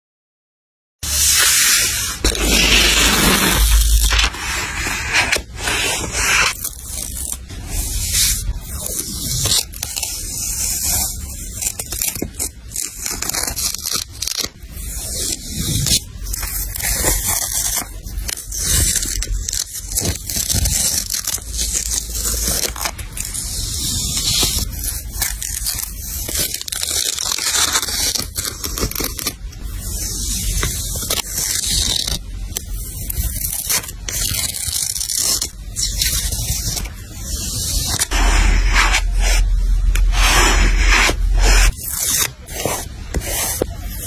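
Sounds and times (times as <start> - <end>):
paper and tape rustling: 1.1 - 44.0.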